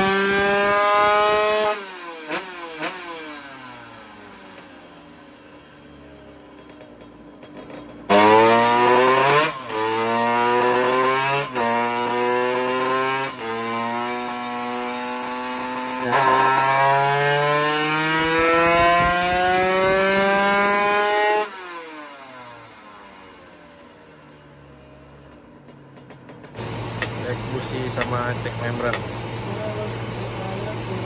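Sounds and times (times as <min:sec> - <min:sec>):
two-stroke motorcycle engine revving: 0:00.0 - 0:31.0.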